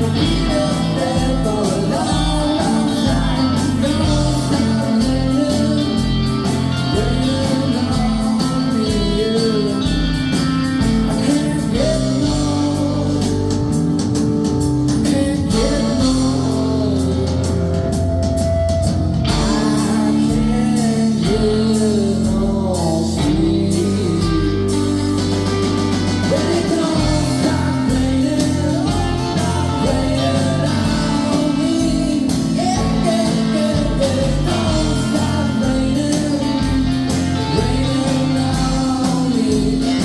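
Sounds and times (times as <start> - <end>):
person singing: 0.0 - 13.8, 14.9 - 18.5, 19.2 - 40.0
bass guitar: 0.0 - 40.0
drums: 0.0 - 40.0
electric guitars: 0.0 - 40.0.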